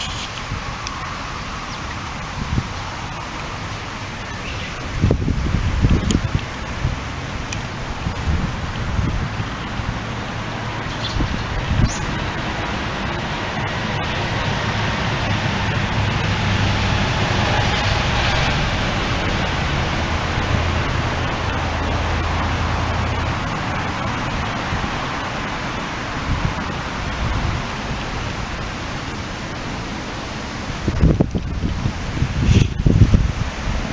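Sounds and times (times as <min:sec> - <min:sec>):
steady rushing noise: 0:00.0 - 0:33.9.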